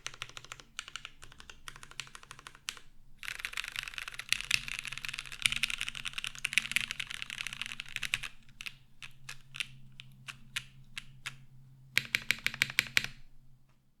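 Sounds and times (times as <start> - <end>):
mechanical keyboard typing: 0.0 - 11.4, 12.0 - 13.2.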